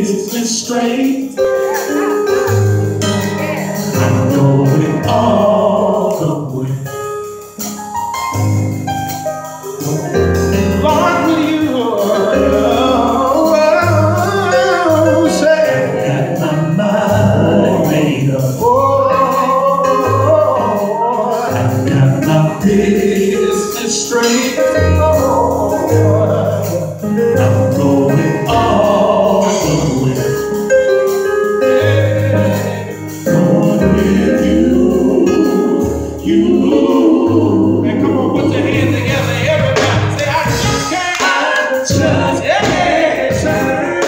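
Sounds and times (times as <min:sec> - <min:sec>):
male vocal quartet singing gospel: 0:00.0 - 0:07.4, 0:09.3 - 0:44.0.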